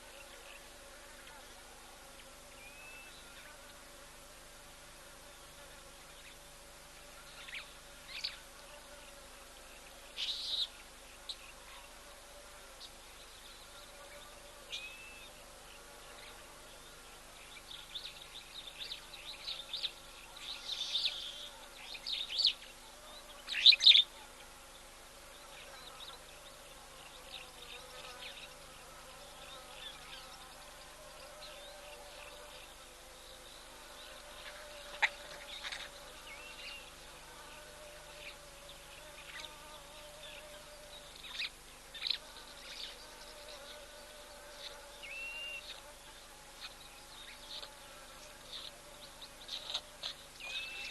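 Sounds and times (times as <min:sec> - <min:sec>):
faint insect drone: 0:00.0 - 0:50.9.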